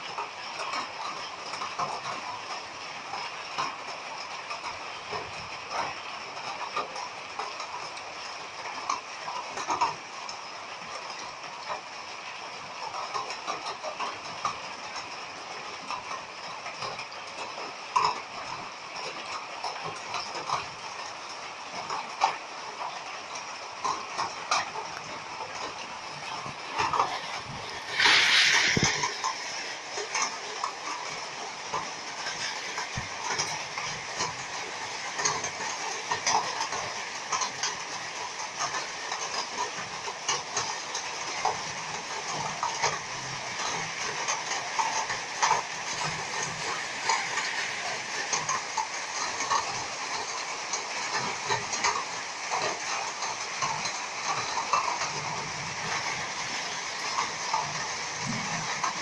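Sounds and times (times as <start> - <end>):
hailstones ticking: 0.0 - 59.0
heavy rain hissing: 0.0 - 59.0.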